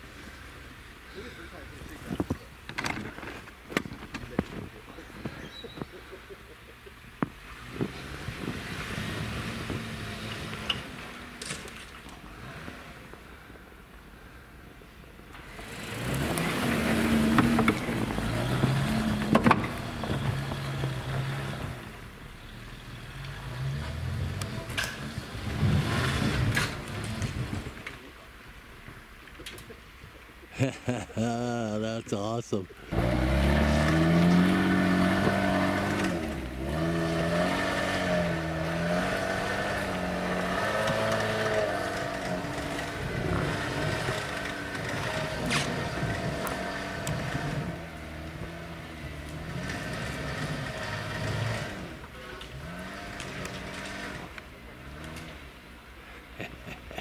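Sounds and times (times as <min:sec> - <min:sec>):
off-road engine revving: 0:04.0 - 0:13.8, 0:15.3 - 0:28.1, 0:32.8 - 0:57.0.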